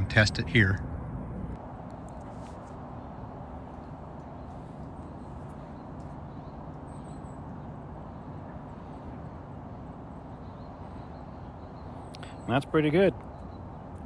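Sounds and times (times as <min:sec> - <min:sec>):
faint steady hum: 0:00.0 - 0:14.0
low outdoor rumble: 0:00.0 - 0:14.0.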